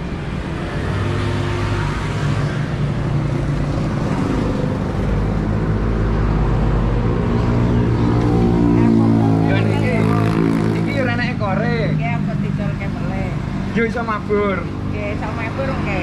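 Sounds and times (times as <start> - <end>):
tyre and street noise: 0.0 - 16.0
vehicle engine humming: 0.0 - 16.0.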